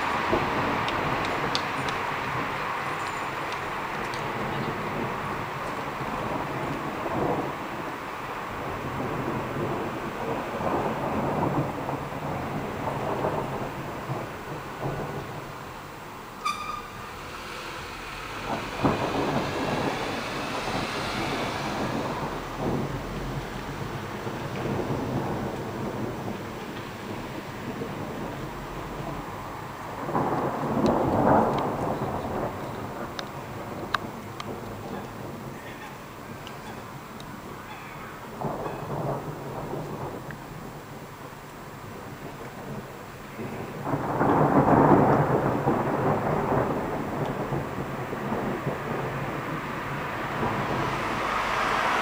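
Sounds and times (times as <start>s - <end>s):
steady rain: 0.0s - 52.0s
thunder rumbling: 0.0s - 52.0s.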